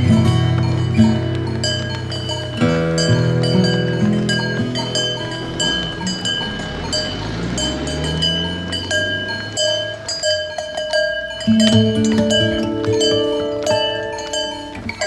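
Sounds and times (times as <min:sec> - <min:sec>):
plucked bell-like music: 0:00.0 - 0:15.0.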